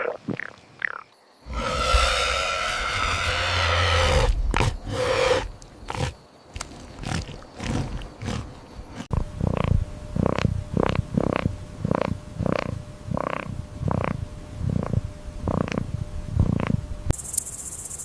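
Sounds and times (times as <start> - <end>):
animal growls: 1.4 - 16.8
animal grunts: 1.5 - 16.8.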